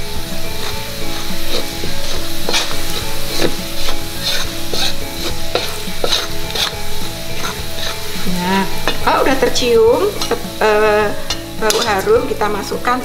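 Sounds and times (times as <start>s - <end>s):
metal spatula scraping a wok: 0.0s - 12.9s
food sizzling in oil: 0.0s - 13.0s.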